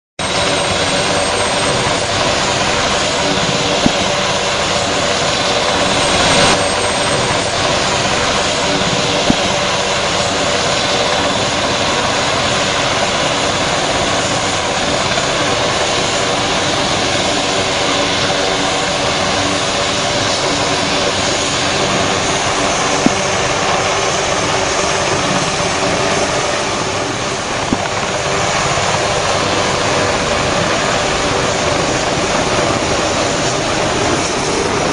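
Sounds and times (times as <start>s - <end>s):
helicopter engine and rotor: 0.2s - 34.9s.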